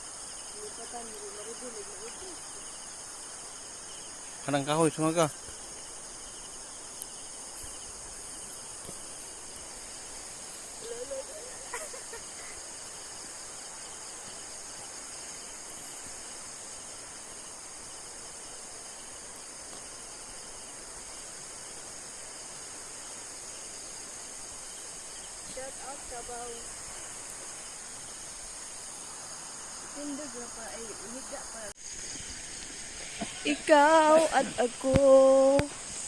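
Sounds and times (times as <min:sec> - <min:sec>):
insect chorus: 0:00.0 - 0:36.0.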